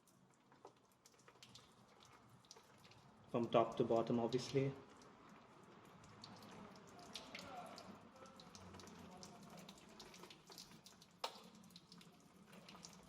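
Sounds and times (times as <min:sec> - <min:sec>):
water splashing on metal: 0:00.0 - 0:13.0.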